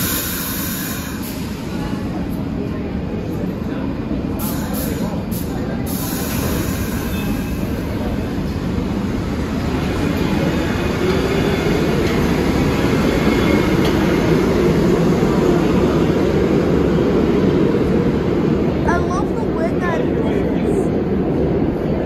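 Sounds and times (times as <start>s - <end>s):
subway train on tracks: 0.0s - 22.0s.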